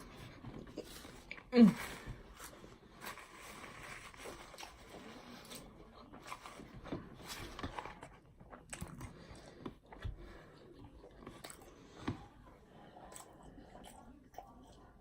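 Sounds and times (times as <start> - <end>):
person chewing food: 2.3 - 15.0.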